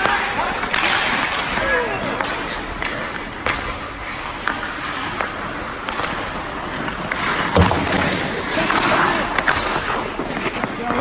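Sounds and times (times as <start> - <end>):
skates scraping ice: 0.0 - 11.0
stick hitting puck: 0.0 - 11.0.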